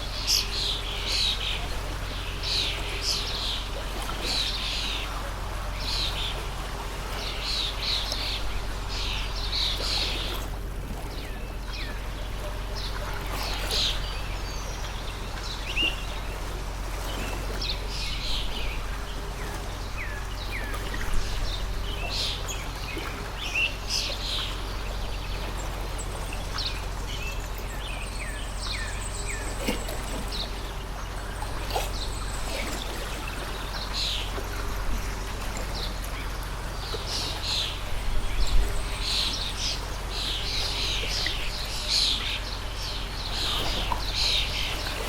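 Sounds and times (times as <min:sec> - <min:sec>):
water stream flowing: 0:00.0 - 0:45.0
small birds chirping: 0:07.1 - 0:45.0.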